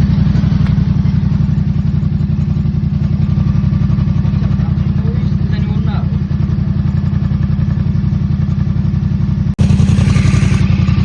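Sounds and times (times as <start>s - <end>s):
engine rattle: 0.0s - 11.0s
motorcycle engine idling: 0.0s - 11.0s.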